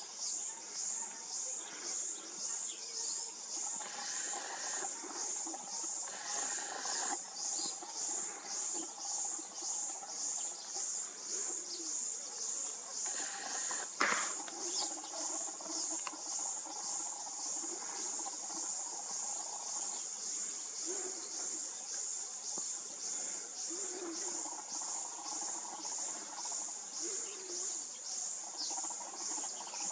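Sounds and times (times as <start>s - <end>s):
insects calling in pulsing rhythm: 0.0s - 29.9s.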